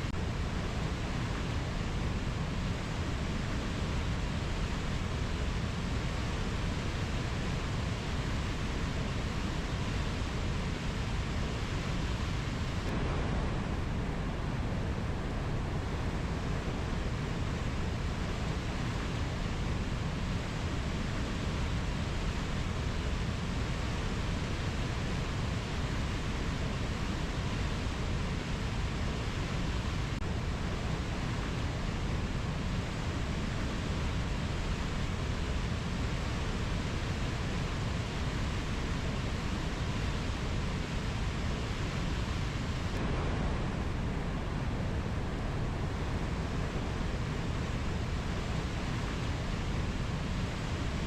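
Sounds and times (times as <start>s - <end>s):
steady rushing noise: 0.0s - 51.0s.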